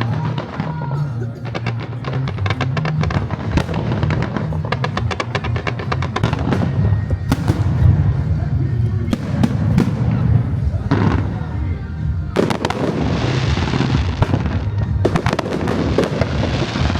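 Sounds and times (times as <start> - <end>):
fireworks bursting and crackling: 0.0 - 16.9
heavy firework bang: 0.0 - 16.9
loud music: 0.0 - 16.9.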